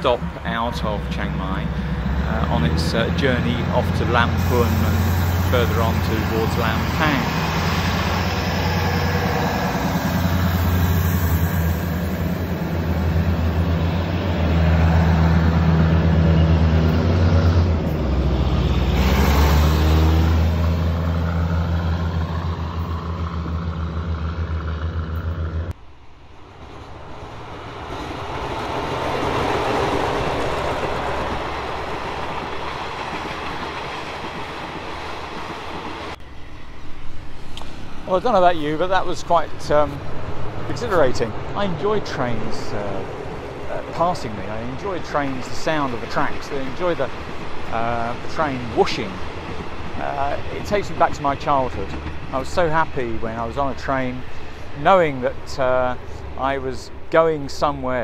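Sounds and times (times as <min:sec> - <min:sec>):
diesel train engine droning: 0:00.0 - 0:58.0
train wheels whooshing on track: 0:01.0 - 0:57.0.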